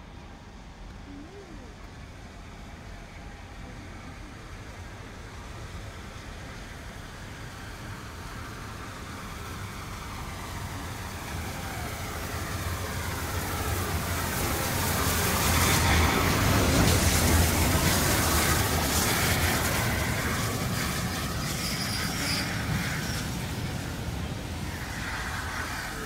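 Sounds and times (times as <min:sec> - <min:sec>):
steam train passing: 0:00.0 - 0:26.0.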